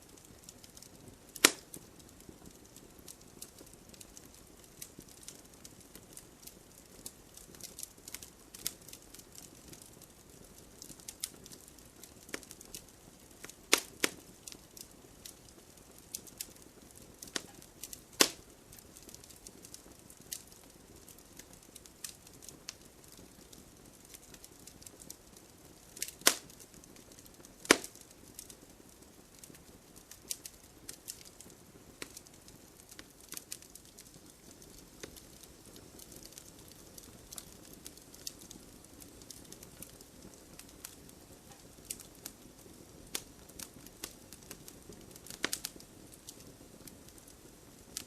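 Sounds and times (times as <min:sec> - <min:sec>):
campfire crackling: 0:00.0 - 0:48.0
fire pops and snaps: 0:00.0 - 0:48.0.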